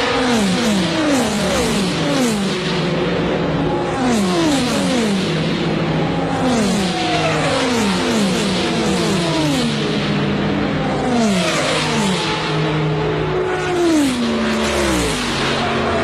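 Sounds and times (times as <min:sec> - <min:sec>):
race cars passing at speed: 0:00.0 - 0:16.0
steady engine drone: 0:00.0 - 0:16.0.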